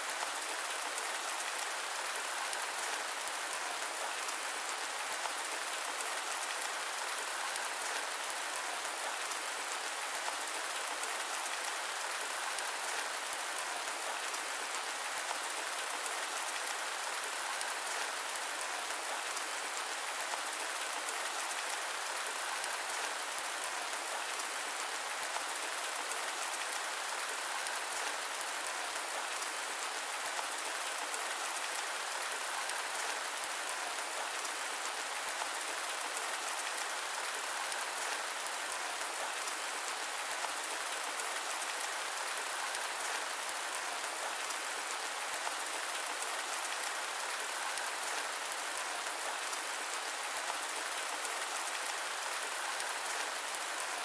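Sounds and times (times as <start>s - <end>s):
patter of raindrops: 0.0s - 54.0s
steady rain hiss: 0.0s - 54.0s.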